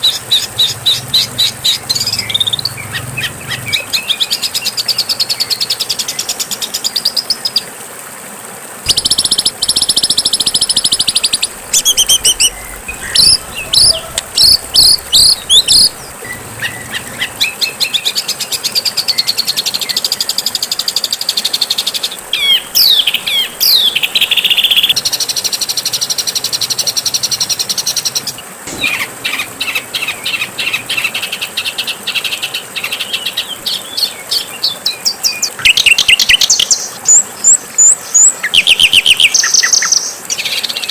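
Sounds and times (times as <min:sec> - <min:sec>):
songbirds singing and calling: 0:00.0 - 0:07.8, 0:08.9 - 0:40.9.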